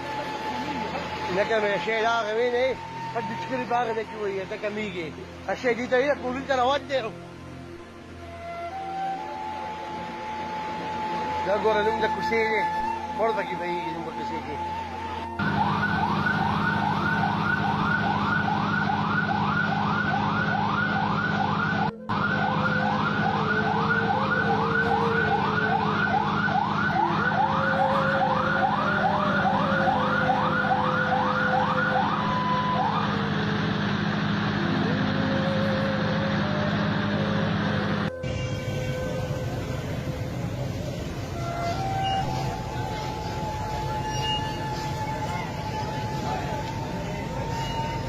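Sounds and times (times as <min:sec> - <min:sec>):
emergency siren yelping: 0:00.0 - 0:05.2, 0:08.4 - 0:48.0
engine drone: 0:00.0 - 0:48.0.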